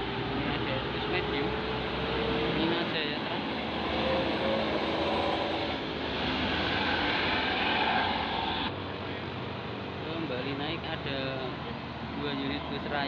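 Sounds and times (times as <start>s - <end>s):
bus diesel engine passing: 0.0s - 12.7s.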